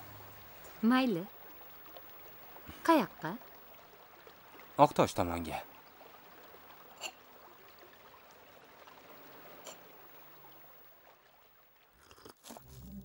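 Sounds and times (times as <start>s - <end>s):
faint background hiss: 0.0s - 11.9s.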